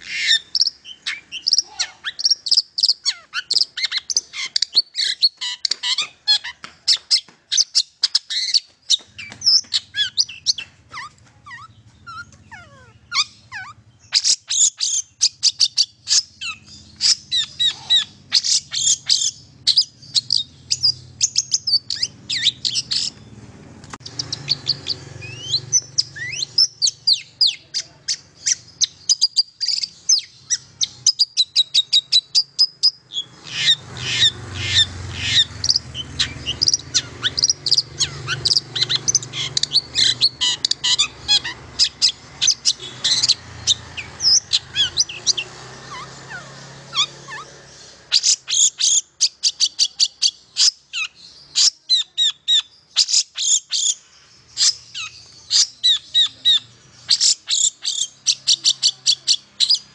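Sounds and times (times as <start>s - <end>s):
bird chirps and trills: 0.0s - 59.9s.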